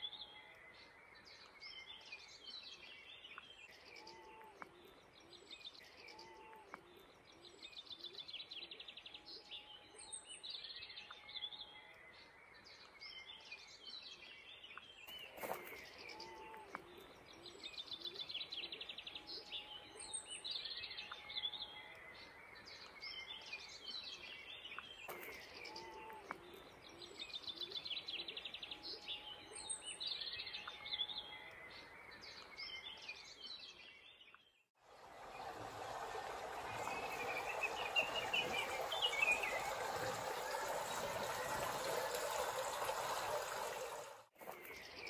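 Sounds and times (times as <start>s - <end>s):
birds singing and chirping: 0.0s - 34.6s, 36.5s - 43.8s.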